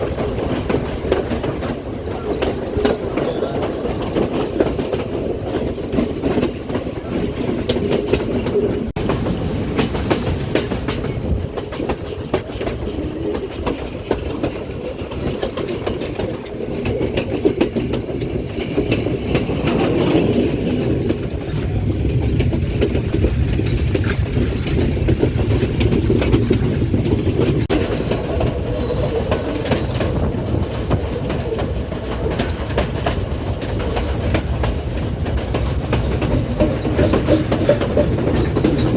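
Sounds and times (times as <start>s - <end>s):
train rumbling: 0.0s - 38.9s
wheels clattering over rail joints: 0.0s - 38.9s.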